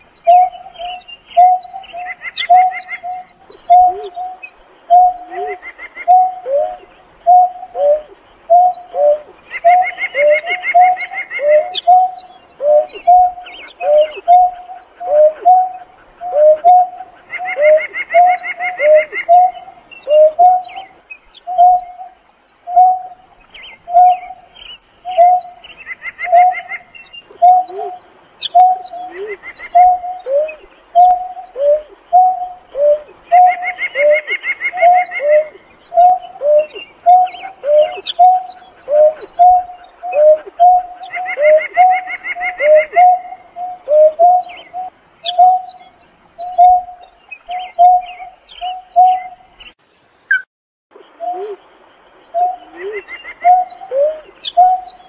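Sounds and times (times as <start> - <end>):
bird cooing hoots: 0.2 - 49.5, 51.2 - 51.7, 52.4 - 55.0.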